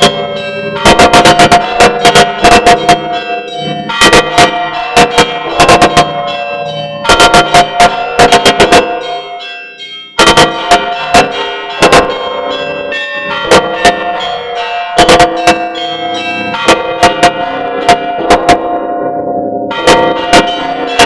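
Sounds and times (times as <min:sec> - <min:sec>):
church bells pealing: 0:00.0 - 0:21.0.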